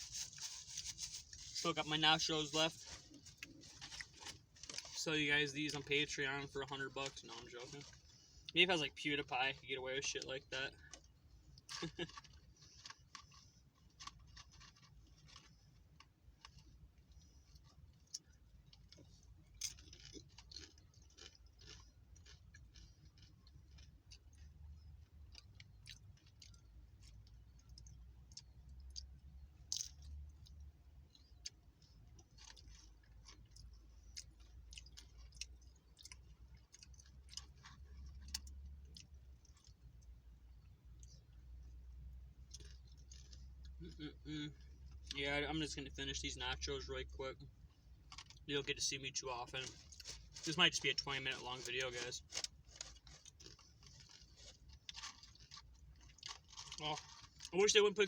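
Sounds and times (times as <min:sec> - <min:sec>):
chewing tortilla chips: 0:00.0 - 0:46.7, 0:47.3 - 0:58.0
low steady hum: 0:00.0 - 0:58.0.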